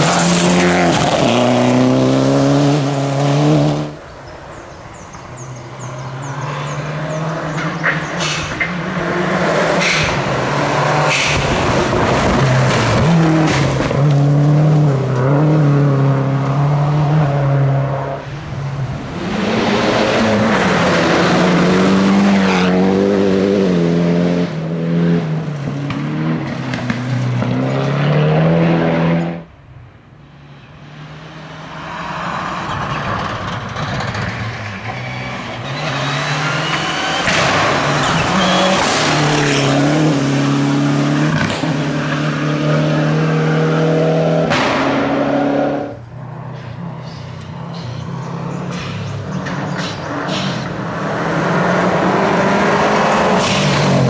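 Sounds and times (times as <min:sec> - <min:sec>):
rally car engine revving: 0:00.0 - 0:04.0, 0:05.8 - 0:29.5, 0:30.9 - 0:54.0.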